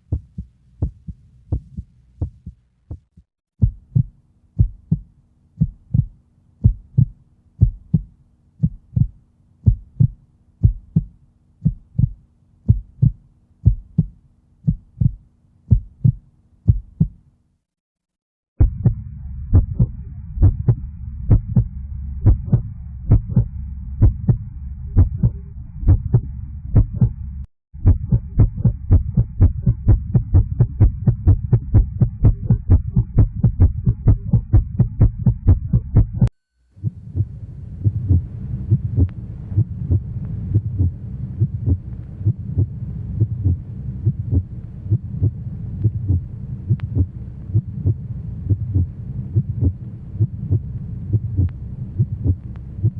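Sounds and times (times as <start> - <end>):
heartbeat: 0.0 - 17.2, 18.6 - 52.9.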